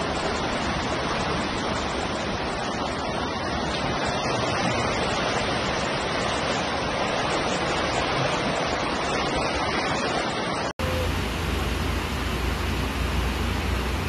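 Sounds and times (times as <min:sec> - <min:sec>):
floodwater rushing over pavement: 0:00.0 - 0:14.0.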